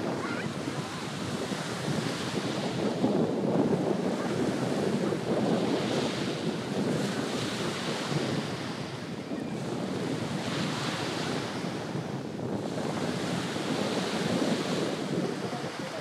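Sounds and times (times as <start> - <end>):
small waves breaking on sand: 0.0 - 16.0
wind buffeting microphone: 0.0 - 16.0.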